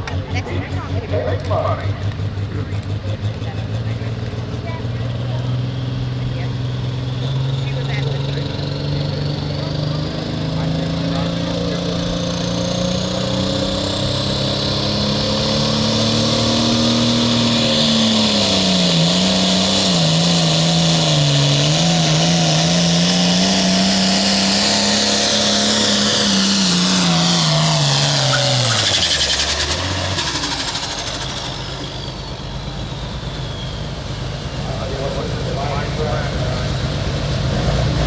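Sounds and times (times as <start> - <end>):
high turbo whine: 0.0 - 38.0
tractor diesel engine under load: 0.0 - 38.0.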